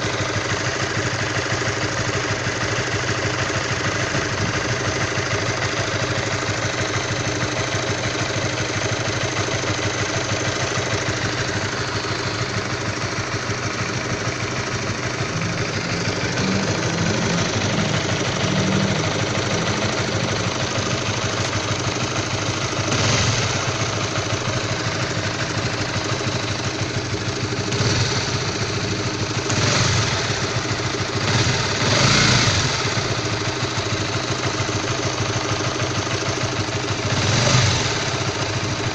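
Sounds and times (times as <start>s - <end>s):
motorcycle engine idling roughly: 0.0s - 38.9s.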